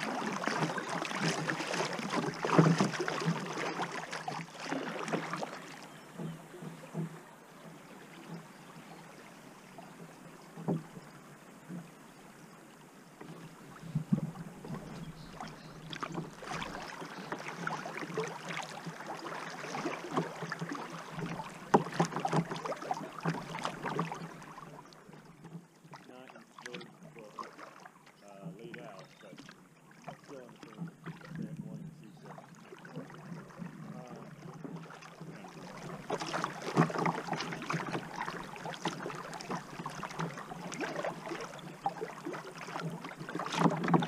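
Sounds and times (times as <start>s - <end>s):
river water splashing: 0.0s - 44.0s.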